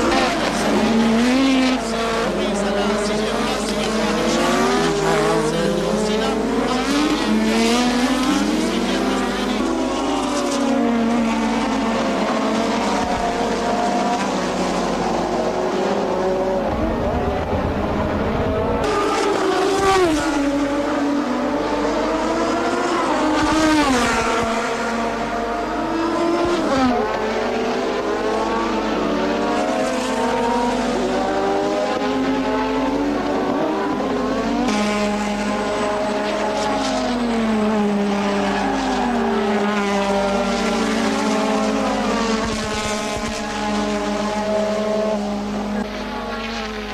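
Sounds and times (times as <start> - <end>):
racing car engines: 0.0 - 46.9.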